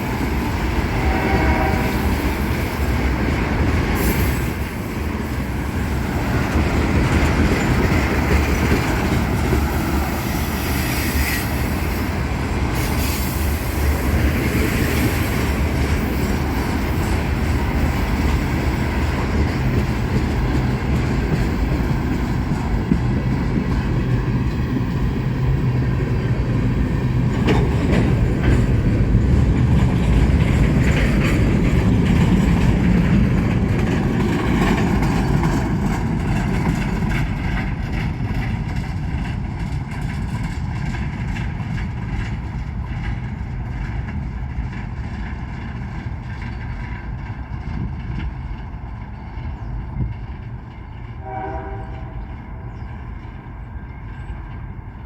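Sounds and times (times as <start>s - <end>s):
locomotive engine hum: 0.0s - 55.0s
rail car wheels clacking: 0.0s - 55.0s.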